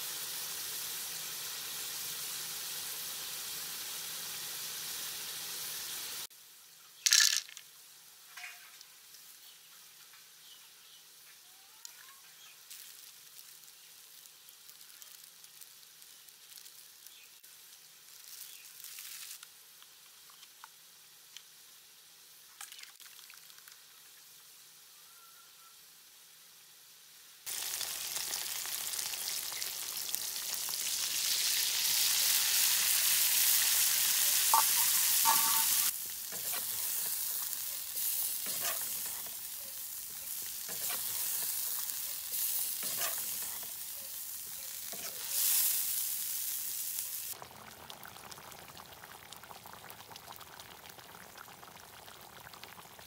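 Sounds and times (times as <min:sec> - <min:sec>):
chicken sizzling in oil: 0:00.0 - 0:06.3, 0:08.0 - 0:20.0, 0:26.1 - 0:53.0.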